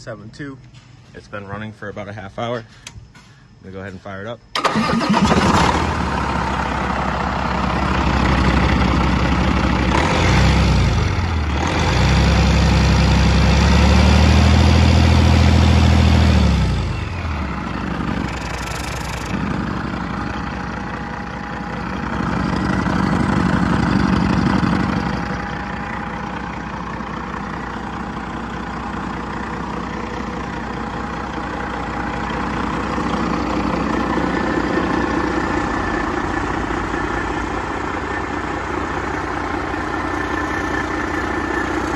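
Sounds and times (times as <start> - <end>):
diesel engine idling and revving: 4.6 - 41.9.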